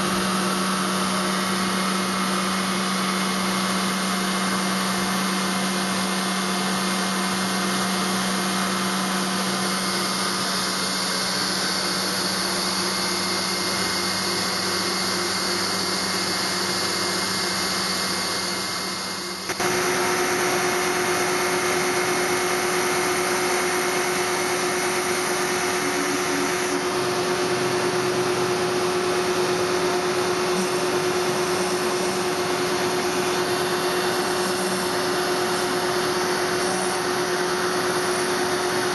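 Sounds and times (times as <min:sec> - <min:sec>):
cutter hissing on stone: 0:00.0 - 0:28.1, 0:29.9 - 0:38.9
machine spindle whine: 0:00.0 - 0:38.9.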